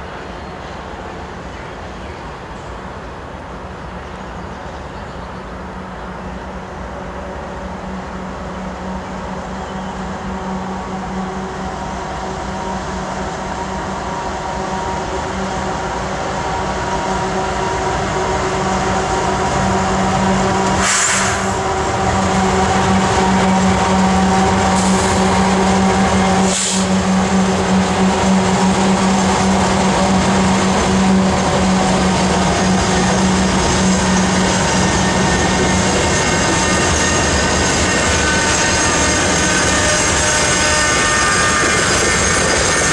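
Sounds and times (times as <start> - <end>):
diesel locomotive engine hum: 0.0 - 42.9.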